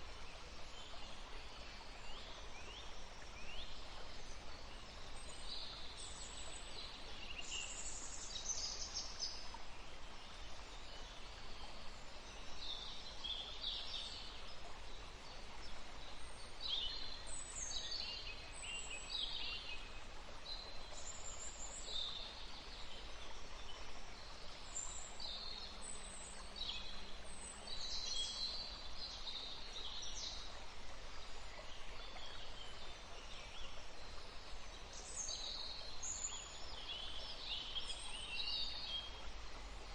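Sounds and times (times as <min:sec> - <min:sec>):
small songbirds chirping: 0:00.0 - 0:39.9
steady background hiss: 0:00.0 - 0:39.9.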